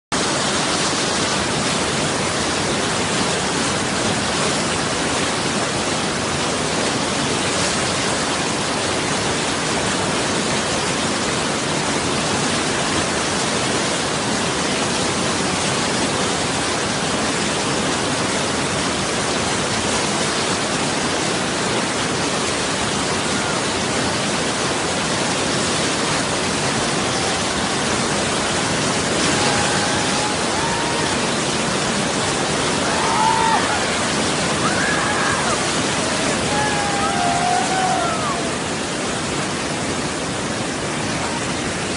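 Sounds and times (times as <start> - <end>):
rapids rushing over boulders: 0.1 - 41.9.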